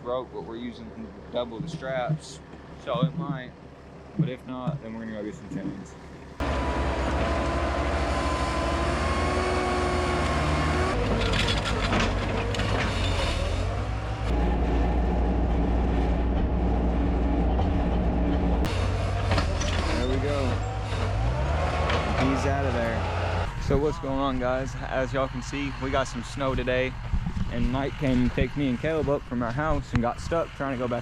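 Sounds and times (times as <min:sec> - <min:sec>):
diesel engines running under load: 0:00.0 - 0:31.0.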